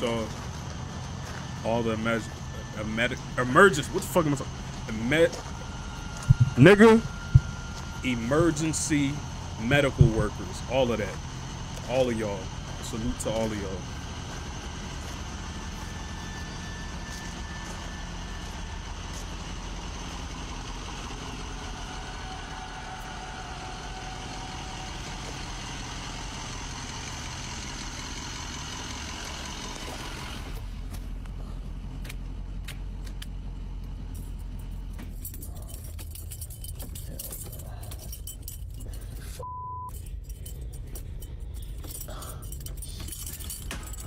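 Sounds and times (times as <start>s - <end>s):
ambulance engine idling: 0.0s - 44.0s.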